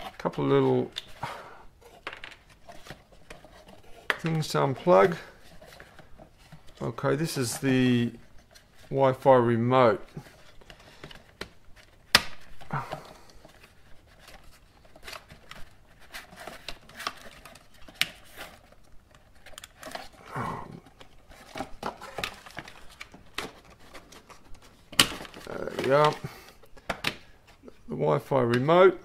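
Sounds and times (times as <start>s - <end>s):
packaging handling rustle: 0.0s - 28.8s.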